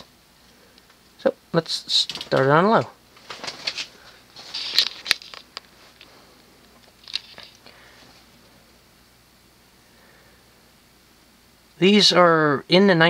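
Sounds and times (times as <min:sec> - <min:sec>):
ceiling fan turning: 0:00.0 - 0:13.0.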